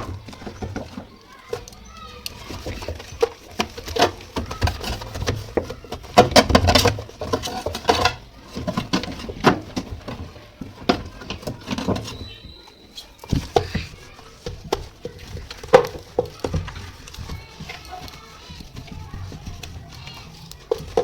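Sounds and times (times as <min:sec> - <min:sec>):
cloth scrubbing plastic: 0:02.3 - 0:21.0.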